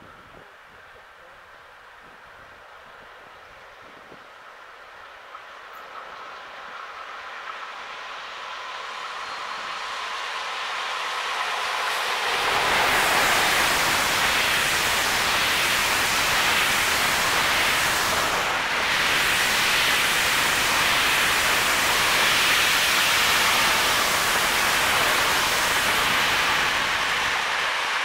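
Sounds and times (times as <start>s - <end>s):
train coaches braking with rushing hiss: 2.7s - 28.0s.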